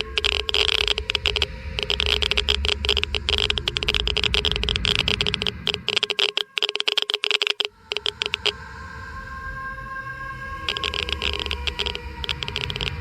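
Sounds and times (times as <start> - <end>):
geiger counter clicking: 0.0 - 8.6, 10.6 - 13.0
steady tones: 0.0 - 8.9, 10.4 - 13.0.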